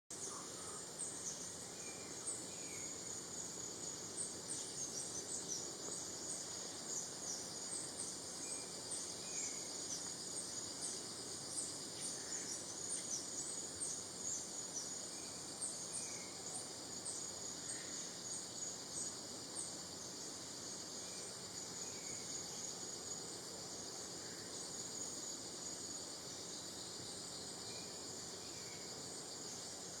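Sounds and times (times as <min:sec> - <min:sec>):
high insect drone: 0:00.1 - 0:30.0.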